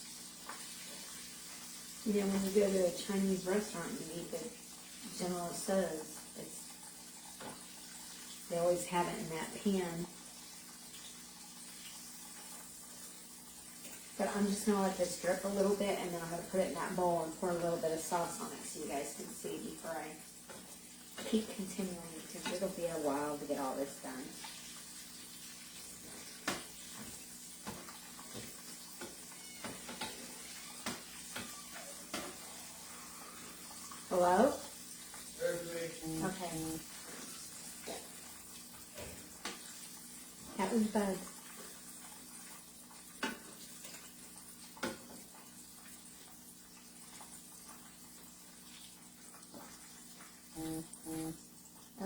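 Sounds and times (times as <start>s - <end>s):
hot oil sizzling: 0.0s - 52.0s.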